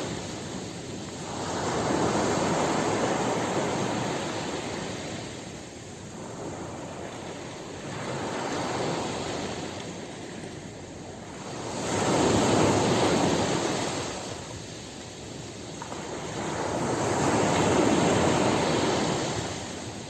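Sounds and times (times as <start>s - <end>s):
ocean surf on a beach: 0.0s - 20.0s.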